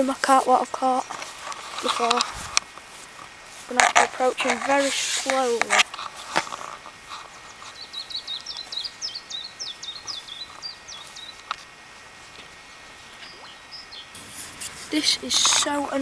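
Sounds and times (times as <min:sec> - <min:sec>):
songbird singing: 0:00.0 - 0:02.4, 0:03.7 - 0:11.8, 0:13.0 - 0:16.0
outdoor background hiss: 0:00.0 - 0:16.0.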